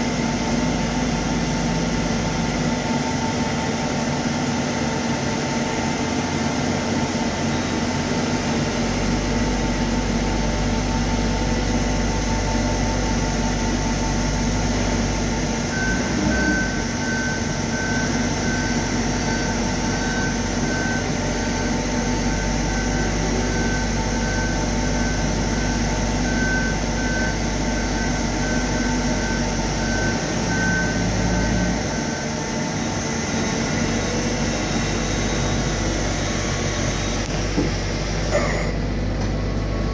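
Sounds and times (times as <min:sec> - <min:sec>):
machine mechanical hum: 0:00.0 - 0:39.9.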